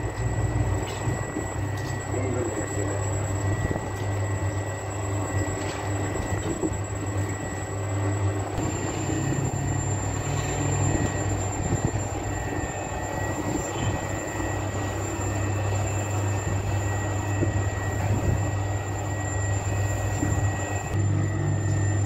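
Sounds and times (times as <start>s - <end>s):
dough mixer humming: 0.0s - 22.0s.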